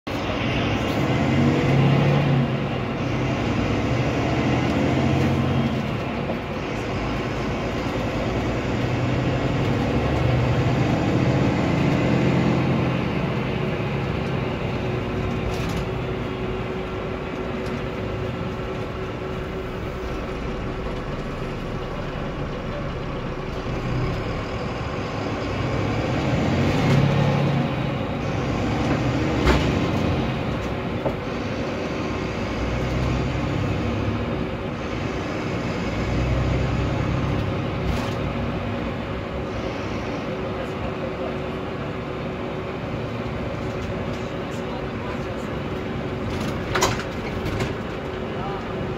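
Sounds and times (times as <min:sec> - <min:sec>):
diesel engine inside coach: 0:00.0 - 0:48.9
tyre and road noise: 0:00.1 - 0:48.9.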